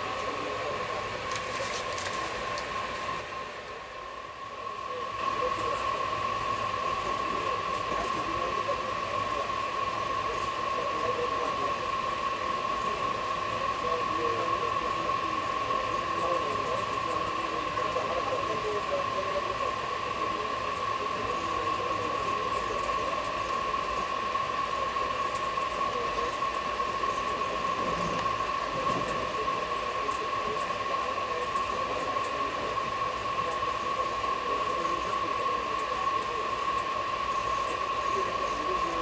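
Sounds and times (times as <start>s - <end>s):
faint voices: 0.0s - 39.0s
steady whine: 0.0s - 39.0s
train coach running noise: 0.0s - 39.0s.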